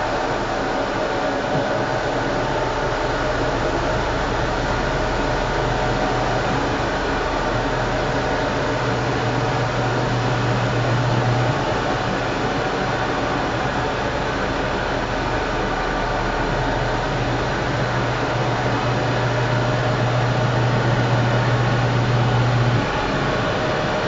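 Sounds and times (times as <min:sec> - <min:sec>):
low motor hum: 0:00.0 - 0:24.0
washing machine rushing noise: 0:00.0 - 0:24.0.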